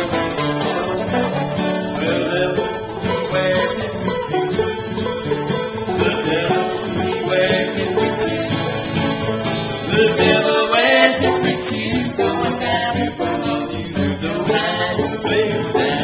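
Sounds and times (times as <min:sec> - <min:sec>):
acoustic guitars strumming: 0:00.0 - 0:16.0
banjo picking fast notes: 0:00.0 - 0:16.0.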